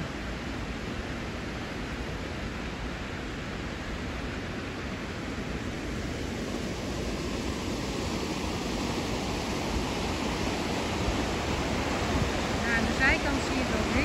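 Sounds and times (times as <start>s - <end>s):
river rushing over rapids: 0.0s - 14.0s.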